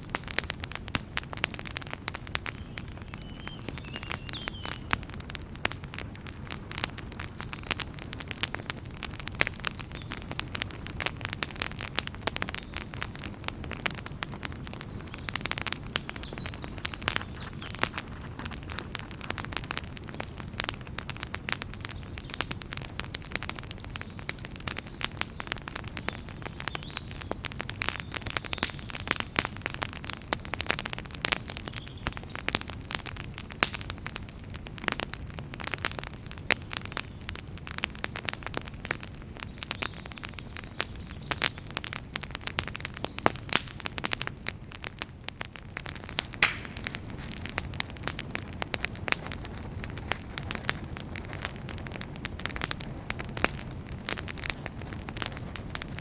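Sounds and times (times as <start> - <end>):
low rumble of burning logs: 0.0 - 56.0
wood fire crackling: 0.0 - 56.0.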